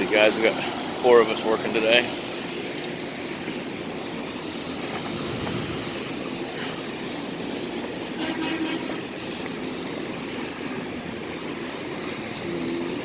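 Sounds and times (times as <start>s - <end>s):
pressure washer hissing: 0.0s - 13.0s.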